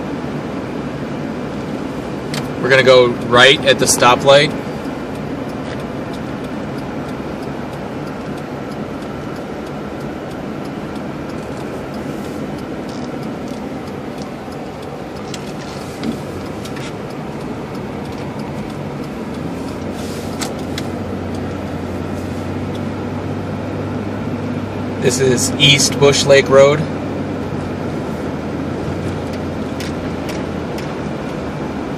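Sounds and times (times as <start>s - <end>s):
car engine hum: 0.0s - 31.9s
tyres on snowy road: 0.0s - 31.9s.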